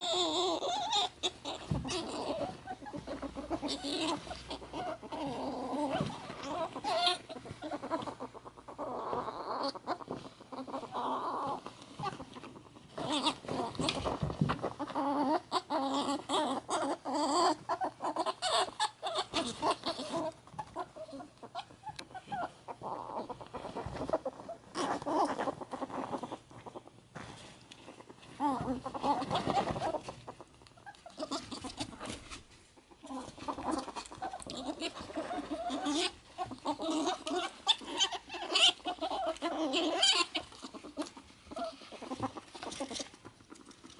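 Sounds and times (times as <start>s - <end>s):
ferrets dooking: 0.0s - 43.9s.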